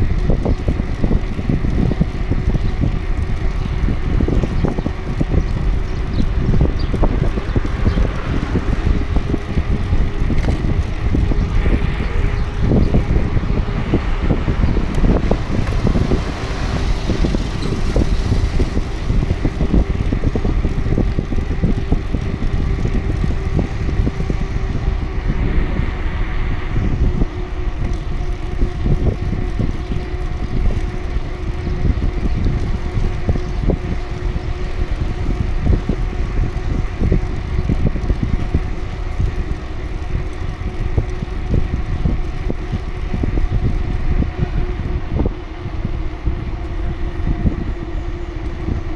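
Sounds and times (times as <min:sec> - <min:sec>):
bicycle rolling on asphalt: 0:00.0 - 0:48.9.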